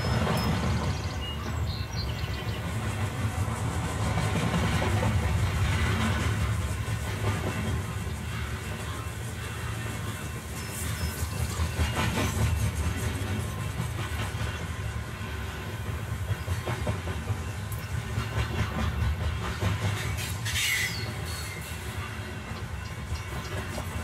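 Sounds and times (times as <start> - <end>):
low train rumble: 0.0 - 24.0
train wheels clattering on rails: 0.0 - 24.0.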